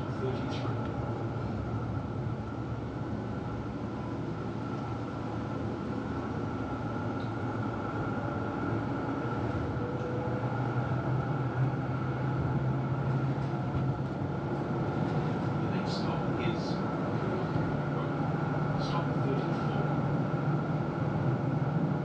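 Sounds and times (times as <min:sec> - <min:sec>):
constant low hum: 0:00.0 - 0:22.0
tram rumbling on track: 0:00.0 - 0:22.0.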